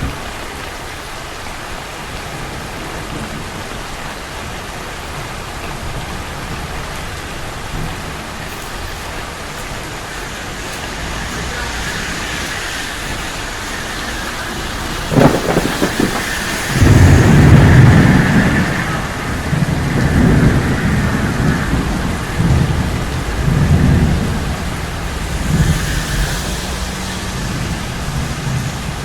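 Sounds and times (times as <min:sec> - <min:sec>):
thunder rumbling: 0:00.0 - 0:00.9, 0:01.8 - 0:29.0
steady rain: 0:00.0 - 0:29.0
thunder crack: 0:05.7 - 0:29.0.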